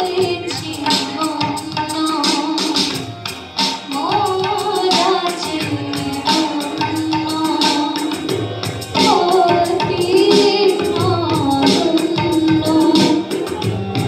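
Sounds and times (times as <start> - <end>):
woman singing: 0.0 - 3.0, 3.7 - 13.8
harmonium: 0.0 - 14.0
tabla: 0.0 - 14.0.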